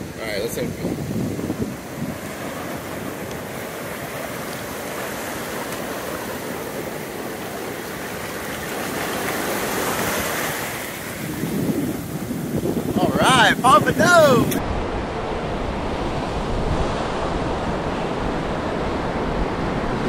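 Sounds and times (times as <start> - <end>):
ocean surf on beach: 0.0 - 20.0.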